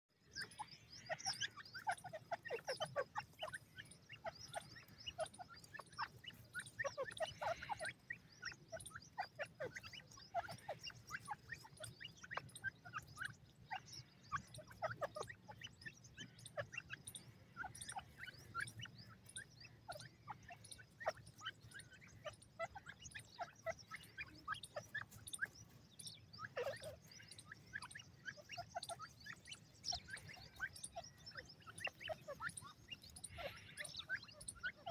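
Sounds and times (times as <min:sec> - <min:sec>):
young birds chirping: 0:00.1 - 0:34.9.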